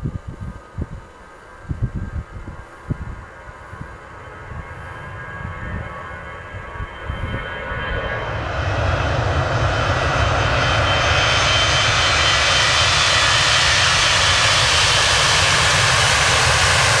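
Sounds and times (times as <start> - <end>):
jet engine roar: 1.9 - 17.0.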